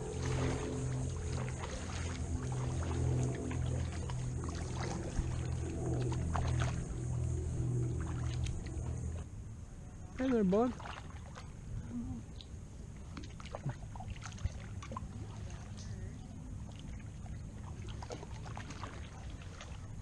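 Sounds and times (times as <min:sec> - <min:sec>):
paddle splashes and drips: 0:00.0 - 0:09.3, 0:10.2 - 0:11.6, 0:12.3 - 0:20.0
steady low rumble: 0:00.0 - 0:10.2, 0:10.8 - 0:20.0.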